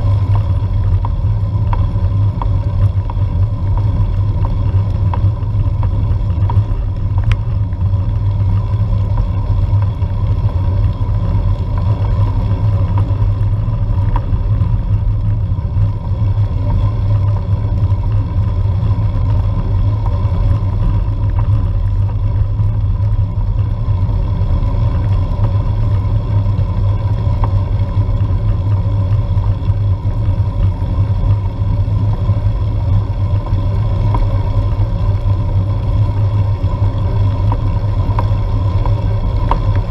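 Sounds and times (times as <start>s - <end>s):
wind buffeting and road rumble: 0.0s - 39.9s.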